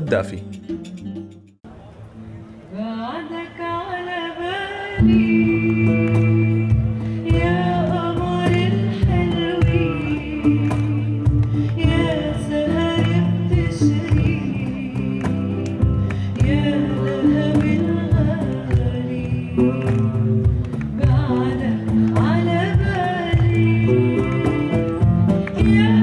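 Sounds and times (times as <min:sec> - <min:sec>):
woman singing into microphone: 0:02.7 - 0:26.0
band with bass and guitar: 0:05.0 - 0:26.0.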